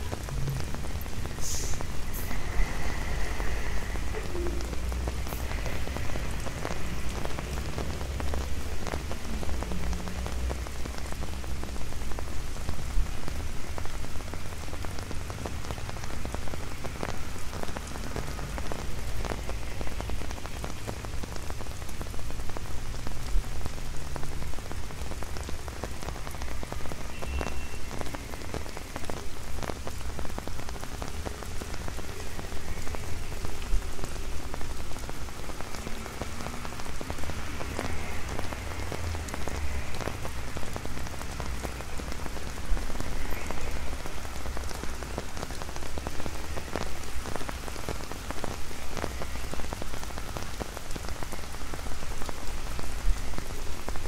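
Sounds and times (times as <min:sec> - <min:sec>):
rain tapping on umbrella: 0:00.0 - 0:54.0.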